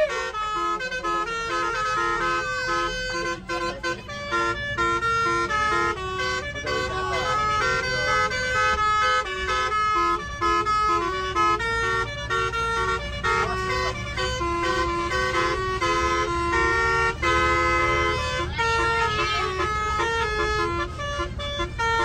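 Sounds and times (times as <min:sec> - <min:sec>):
engine and road rumble: 0:00.0 - 0:22.0
musical air horn tune: 0:00.0 - 0:22.0.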